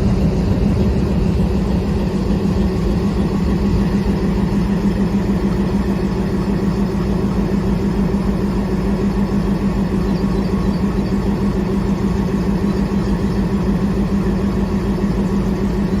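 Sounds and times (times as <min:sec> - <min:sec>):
diesel locomotive engine throbbing: 0:00.0 - 0:16.0.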